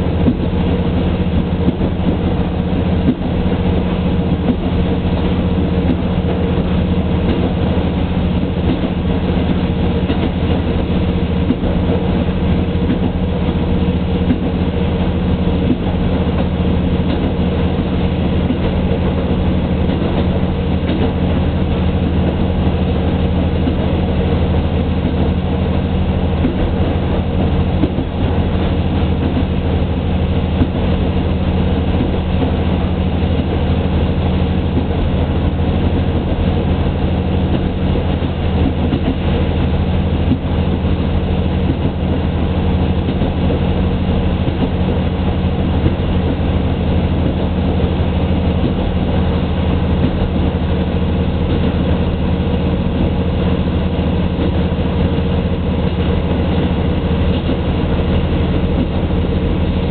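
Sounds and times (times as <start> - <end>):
train engine drone: 0.0 - 59.9
wheels rumbling on rails: 0.0 - 59.9.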